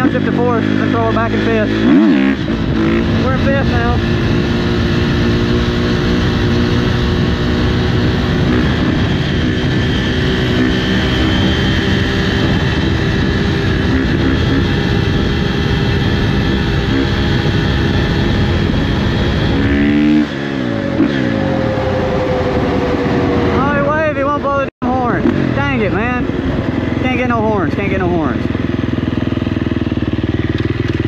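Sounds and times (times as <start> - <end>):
wind noise on microphone: 0.0 - 30.4
motorcycle engine running: 0.0 - 31.0.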